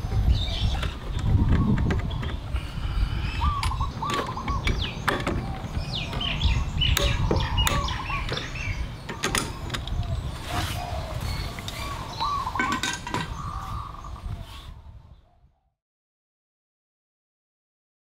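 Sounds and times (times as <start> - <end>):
small birds chirping: 0.0 - 15.7.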